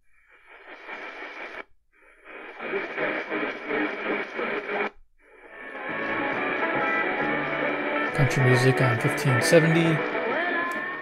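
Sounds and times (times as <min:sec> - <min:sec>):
noisy am radio station audio: 0:00.1 - 0:11.0.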